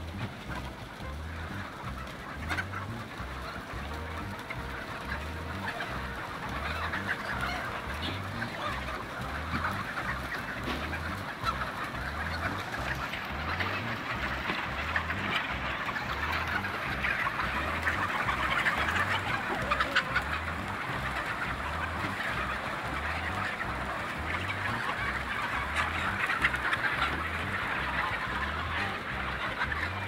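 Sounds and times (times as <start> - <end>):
chickens clucking and squawking: 0.0 - 30.0.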